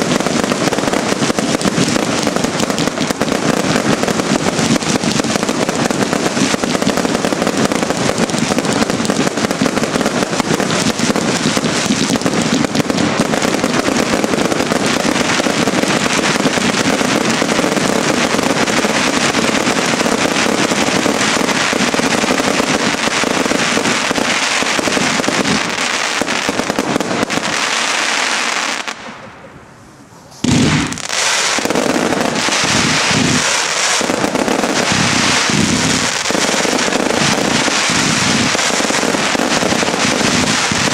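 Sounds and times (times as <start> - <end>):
fireworks barrage bangs and crackling: 0.0 - 40.9.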